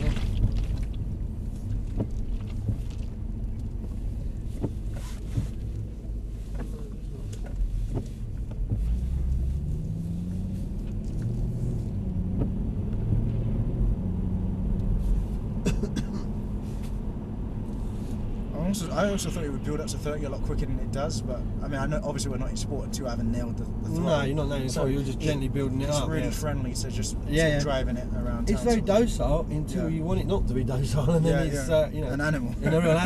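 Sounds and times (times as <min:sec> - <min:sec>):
car engine rumbling from inside: 0:00.0 - 0:33.0.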